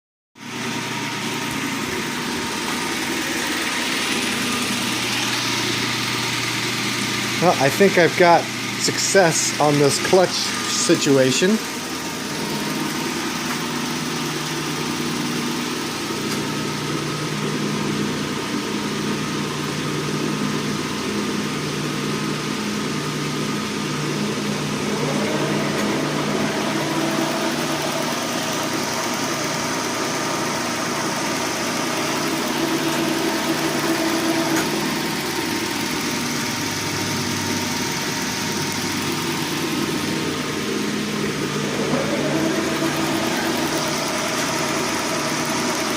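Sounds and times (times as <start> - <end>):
metal lathe running: 0.4 - 45.9.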